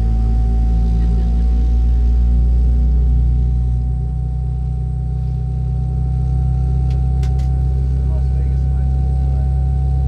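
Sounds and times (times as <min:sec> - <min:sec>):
jet engines idling drone: 0:00.0 - 0:10.0
thin constant engine whine: 0:00.0 - 0:10.0.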